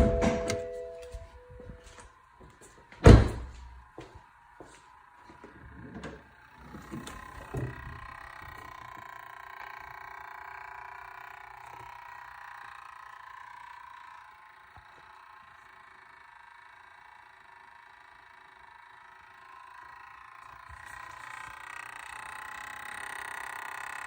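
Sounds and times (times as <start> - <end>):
engine whirring hum: 0.0 - 24.0.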